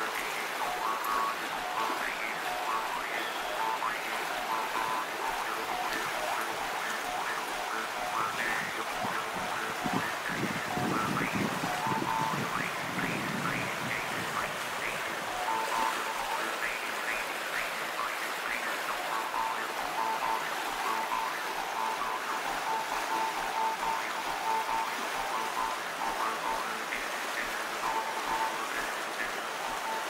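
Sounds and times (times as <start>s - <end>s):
river rushing: 0.0s - 30.0s.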